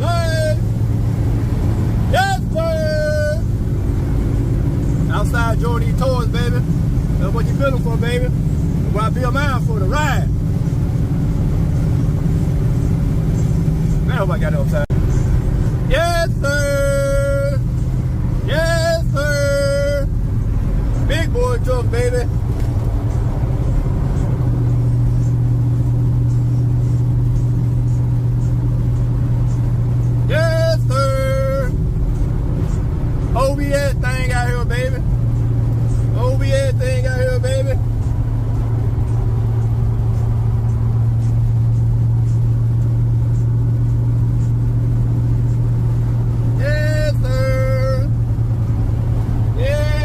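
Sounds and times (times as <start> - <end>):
truck engine and road noise: 0.0 - 50.0.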